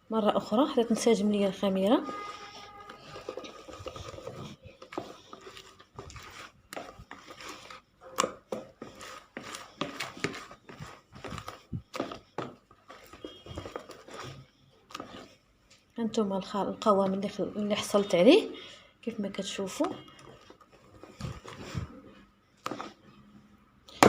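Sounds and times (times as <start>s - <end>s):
batter mixed in a bowl: 0.0s - 24.0s.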